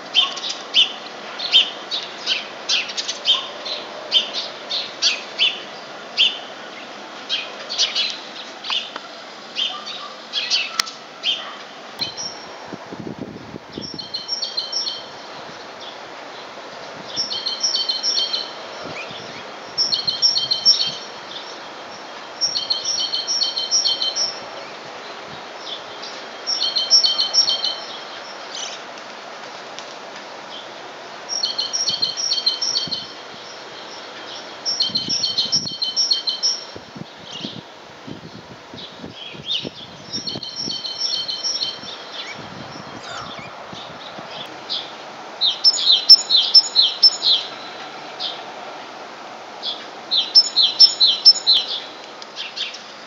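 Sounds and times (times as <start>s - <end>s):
songbird chirping: 0.0s - 12.8s, 13.8s - 29.0s, 30.3s - 37.7s, 38.3s - 48.8s, 49.5s - 53.0s
steady background noise: 0.0s - 53.0s.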